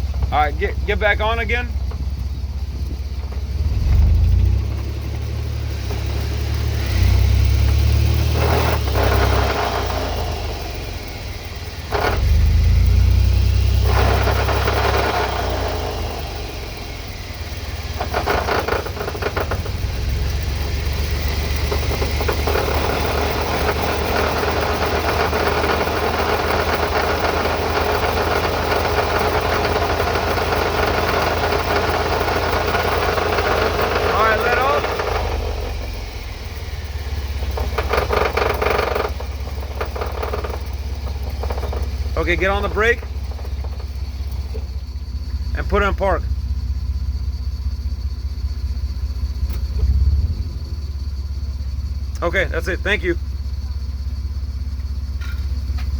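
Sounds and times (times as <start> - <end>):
drivetrain whine: 0.0 - 55.9
truck engine surging: 0.0 - 55.9.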